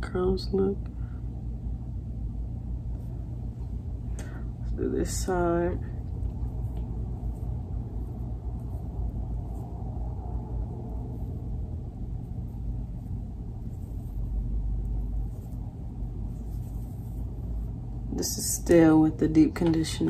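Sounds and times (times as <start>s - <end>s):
low background rumble: 0.0s - 20.0s
faint hair rustling: 2.8s - 20.0s.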